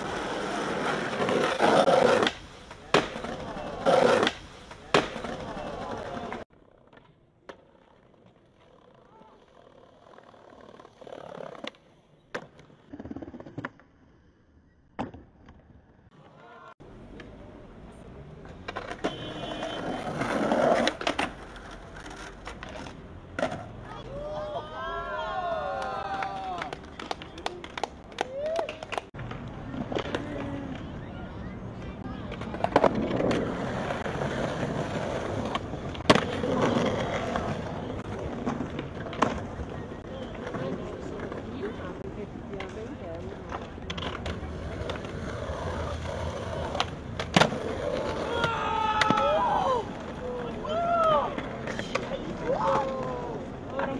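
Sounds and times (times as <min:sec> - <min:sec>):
skateboard wheels rolling on paving: 0:00.0 - 0:53.9
skateboard pops and clacks: 0:00.4 - 0:09.4, 0:10.6 - 0:13.9, 0:14.9 - 0:15.9, 0:18.5 - 0:24.0, 0:25.7 - 0:30.9, 0:31.8 - 0:41.8, 0:42.5 - 0:50.2, 0:50.9 - 0:53.9.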